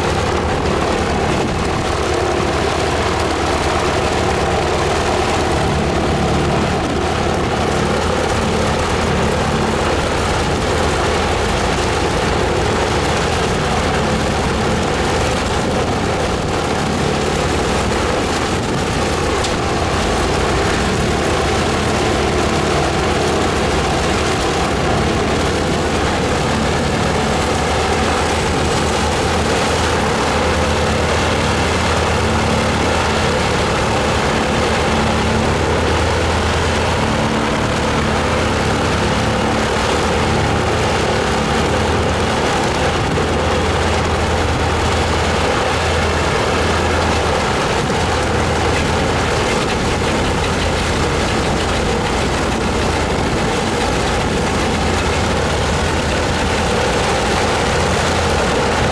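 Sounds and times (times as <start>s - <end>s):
aircraft radial engines idling: 0.0s - 58.9s.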